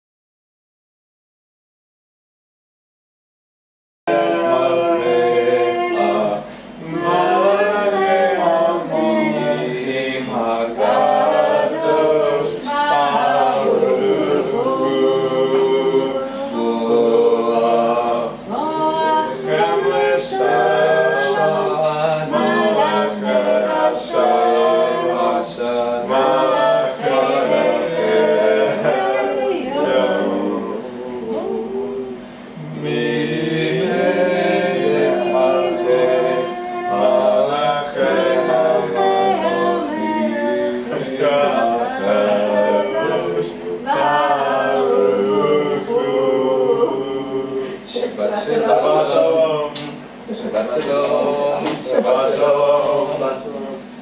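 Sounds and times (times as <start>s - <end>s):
group singing unaccompanied: 4.1s - 54.0s.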